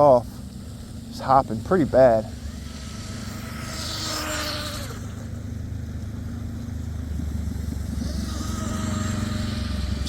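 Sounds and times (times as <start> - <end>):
electric boat motor whining: 0.0 - 10.0
steady low rumble: 0.0 - 10.0.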